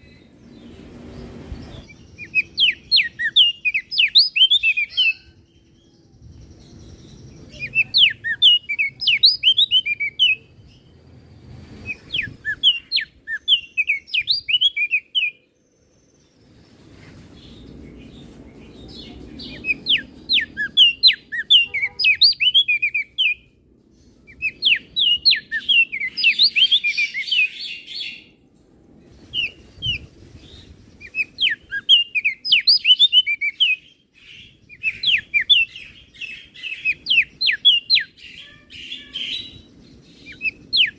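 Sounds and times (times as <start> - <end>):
bird singing chattering phrases: 0.0 - 10.9, 11.8 - 15.8, 17.4 - 23.4, 24.0 - 28.3, 29.4 - 40.9.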